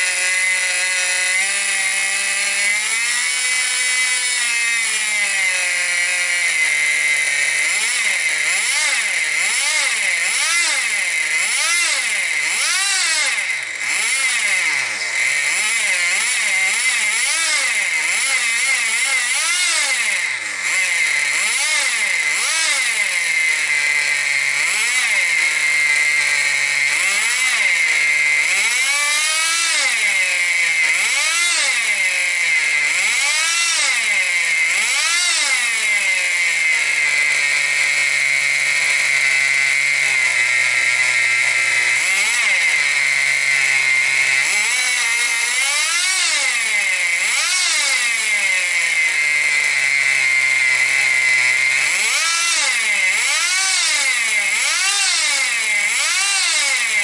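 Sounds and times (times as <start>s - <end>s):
nitro engine revving: 0.0s - 57.0s.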